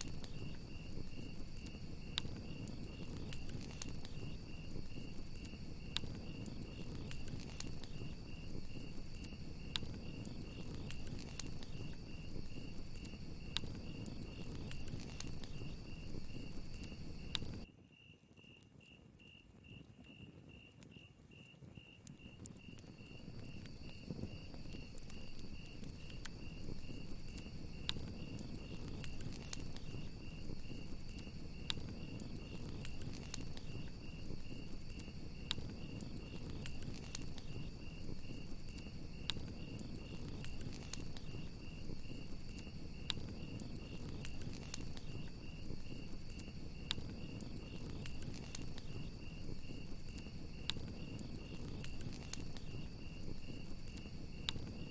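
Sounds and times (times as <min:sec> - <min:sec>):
wood fire crackling: 0:00.0 - 0:17.7, 0:19.9 - 0:54.9
crickets trilling: 0:00.0 - 0:54.9
higher-pitched cricket: 0:00.0 - 0:54.9.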